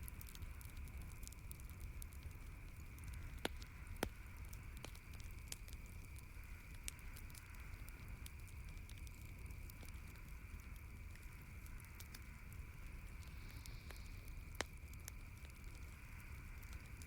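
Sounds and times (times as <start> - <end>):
campfire crackling: 0.0 - 17.0
low rumble and hiss: 0.0 - 17.0.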